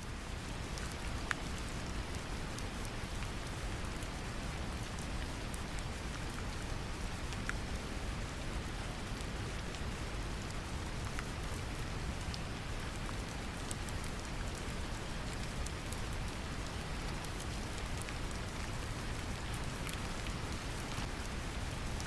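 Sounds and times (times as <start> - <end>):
brown noise rumbling hiss: 0.0 - 22.0
rain falling on a surface: 0.0 - 22.0.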